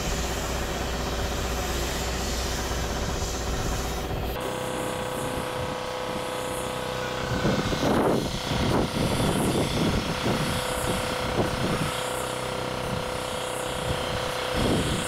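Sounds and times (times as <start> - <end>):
constant hum: 0.0 - 15.0
machine droning: 0.0 - 15.0.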